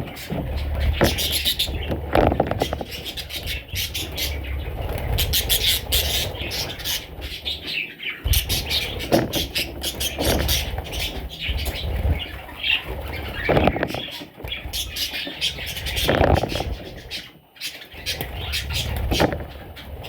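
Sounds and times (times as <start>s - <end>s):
parrots chattering: 0.0s - 20.0s.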